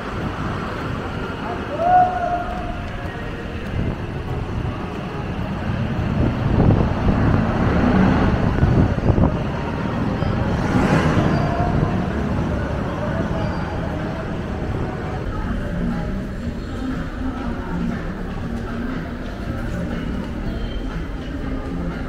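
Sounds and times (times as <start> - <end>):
vehicles passing by: 0.0 - 22.0.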